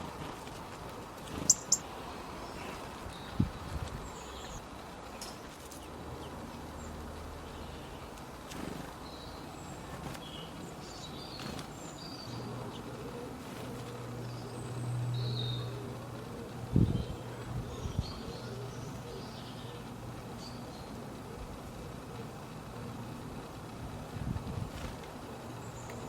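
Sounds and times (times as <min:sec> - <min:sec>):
birds chirping: 0:00.0 - 0:23.6, 0:24.8 - 0:26.0.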